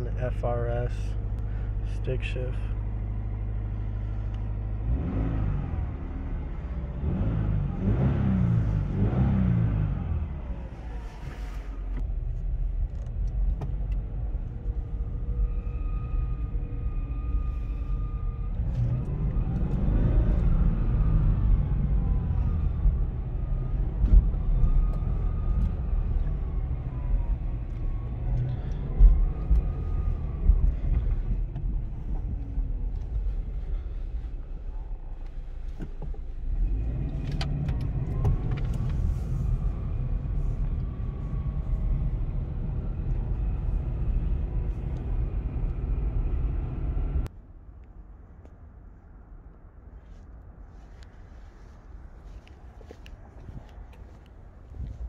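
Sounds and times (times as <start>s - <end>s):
car engine while driving: 0.0s - 55.0s
low road rumble: 0.0s - 55.0s.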